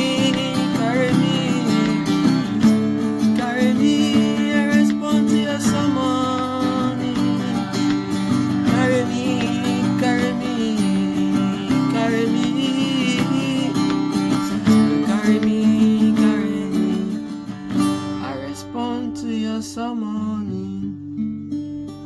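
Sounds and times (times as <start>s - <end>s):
person singing wordless melody: 0.0s - 21.0s
acoustic guitar strumming: 0.0s - 22.0s.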